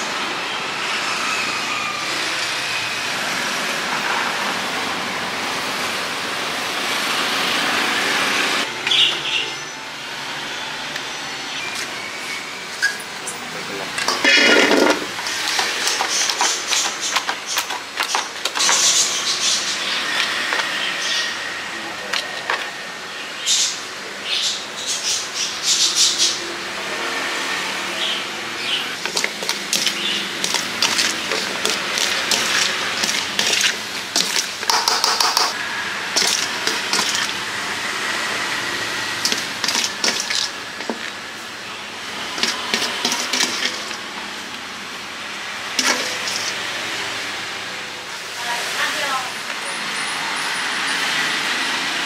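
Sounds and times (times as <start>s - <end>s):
steady background noise: 0.0s - 52.0s.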